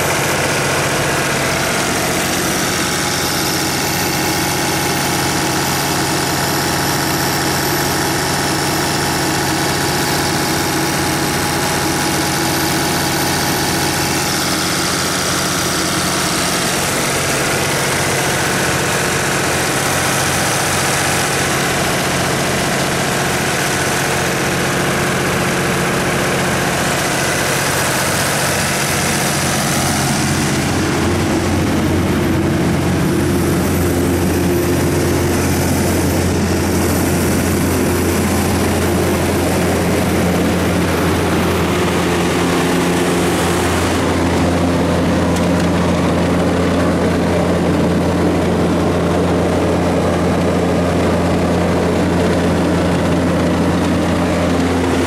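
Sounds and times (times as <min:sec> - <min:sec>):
generator diesel engine droning: 0:00.0 - 0:55.0.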